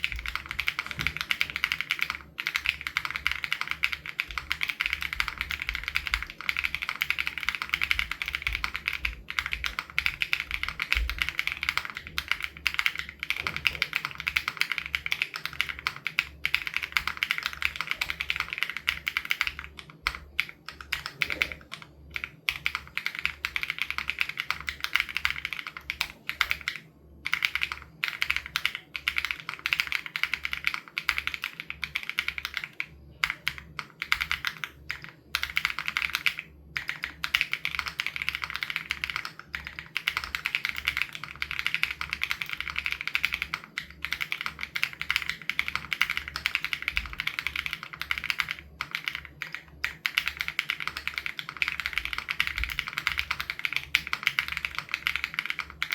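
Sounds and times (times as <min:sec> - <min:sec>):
mechanical keyboard typing: 0:00.0 - 0:55.9.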